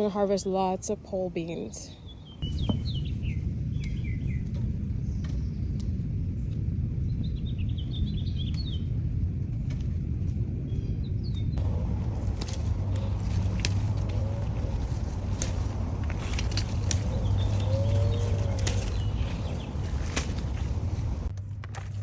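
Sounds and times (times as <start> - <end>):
birds chirping: 0.0 - 21.3
low rumble: 2.0 - 22.0.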